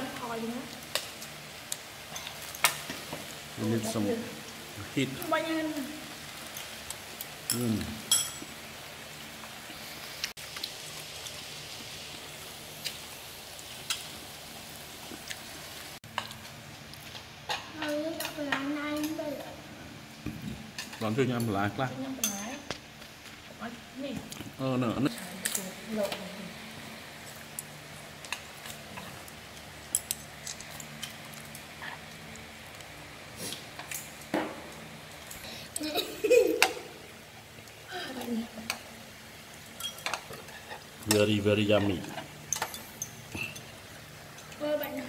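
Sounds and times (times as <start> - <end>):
meat and vegetables sizzling: 0.0 - 45.0.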